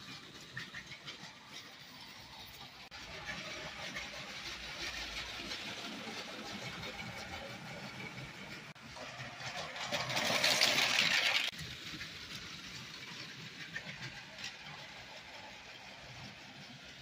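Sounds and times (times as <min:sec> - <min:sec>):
toy train whirring and rattling: 0:00.0 - 0:17.0.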